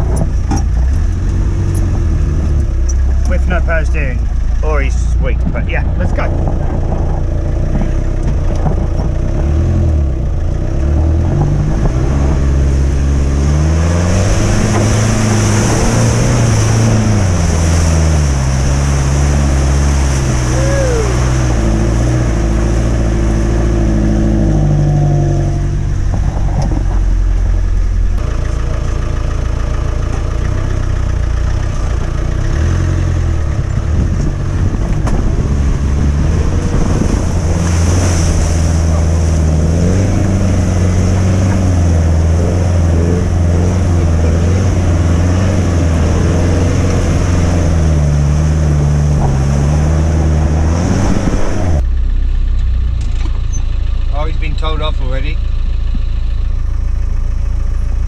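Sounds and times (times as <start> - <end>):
water and mud splashing: 0.0 - 51.9
engine working under load: 0.0 - 58.0.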